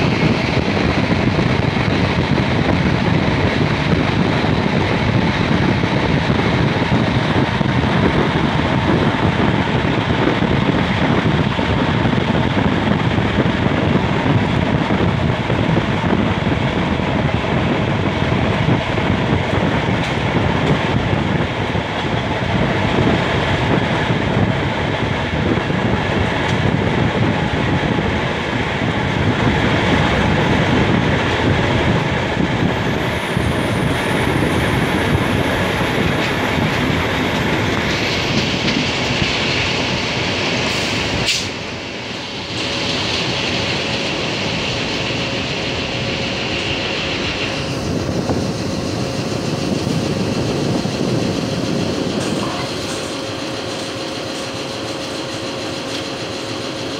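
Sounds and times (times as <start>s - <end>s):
train rumble: 0.0s - 56.9s
wheels clickety-clack on rails: 0.0s - 56.9s.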